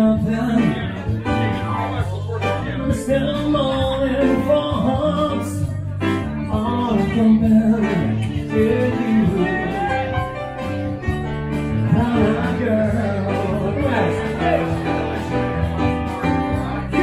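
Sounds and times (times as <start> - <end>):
bass line: 0.0 - 17.0
keyboard piano-bar music: 0.0 - 17.0
man singing: 0.0 - 17.0.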